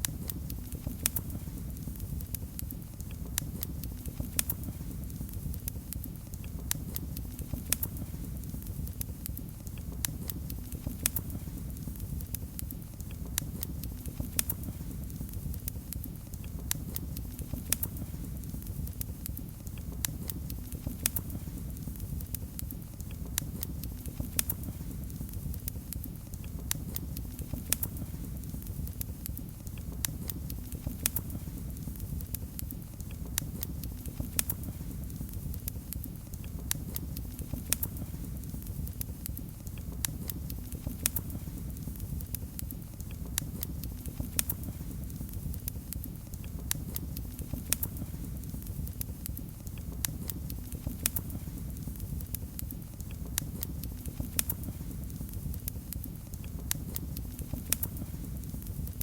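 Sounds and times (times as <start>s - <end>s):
low rumble of burning: 0.0s - 59.0s
wood fire crackling and popping: 0.0s - 59.0s.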